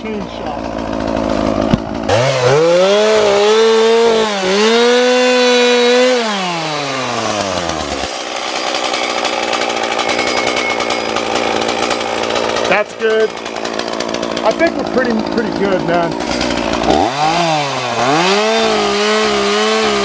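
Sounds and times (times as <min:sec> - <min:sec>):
chainsaw revving and idling: 0:00.0 - 0:20.0.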